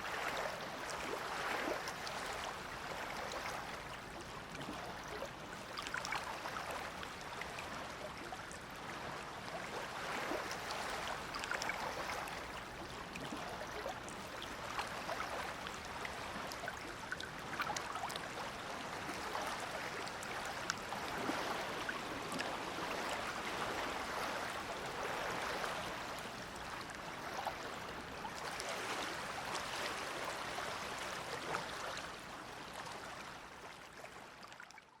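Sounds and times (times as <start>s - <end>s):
waves lapping at shoreline: 0.0s - 34.8s.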